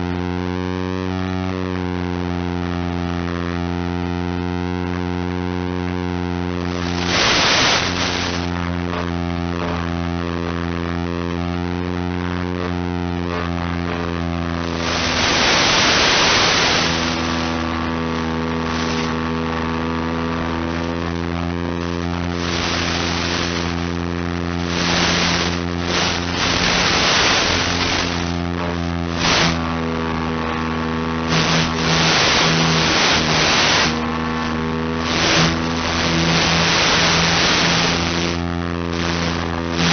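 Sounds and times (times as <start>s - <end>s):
model plane motor buzzing: 0.0s - 39.9s
radio static hiss: 1.6s - 39.9s.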